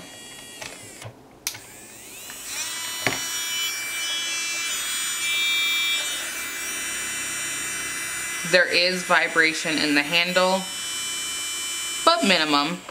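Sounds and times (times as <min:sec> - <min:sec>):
nail drill motor whine: 0:00.0 - 0:12.9.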